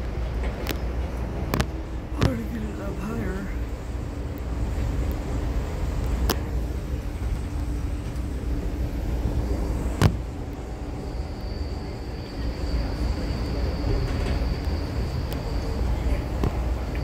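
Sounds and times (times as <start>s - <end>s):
train rumbling: 0.0s - 17.0s
faint high whine: 0.7s - 17.0s.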